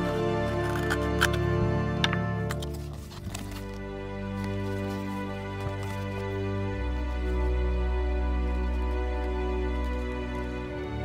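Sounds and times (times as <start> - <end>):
music of sustained chords: 0.0 - 11.0.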